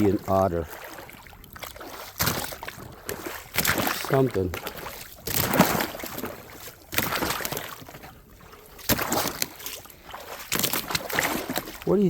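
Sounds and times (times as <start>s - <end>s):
crunching footsteps: 0.8s - 12.0s.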